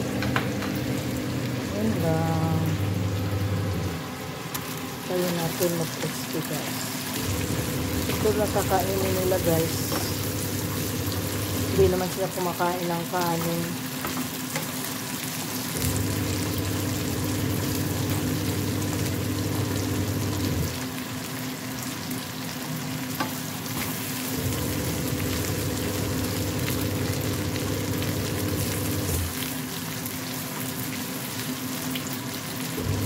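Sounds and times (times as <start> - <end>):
chicken sizzling in a frying pan: 0.0 - 33.0.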